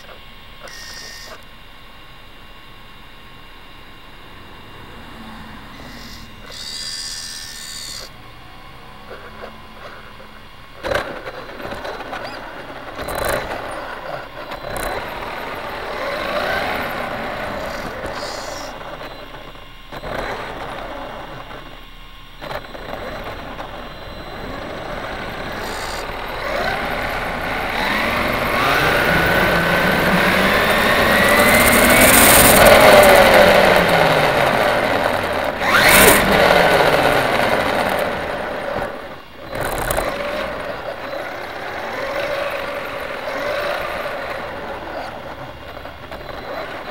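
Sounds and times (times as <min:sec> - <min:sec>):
rc car motor whining: 0:00.0 - 0:46.9.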